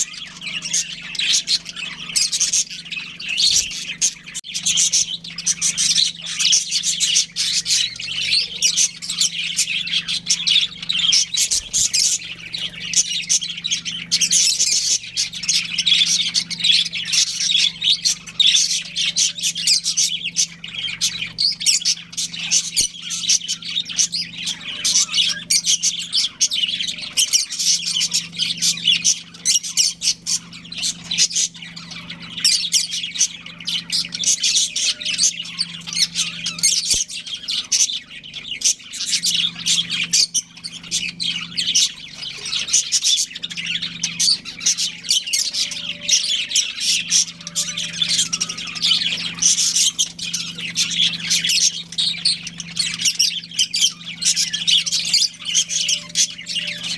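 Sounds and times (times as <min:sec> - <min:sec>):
budgerigars chirping: 0:00.0 - 0:56.9.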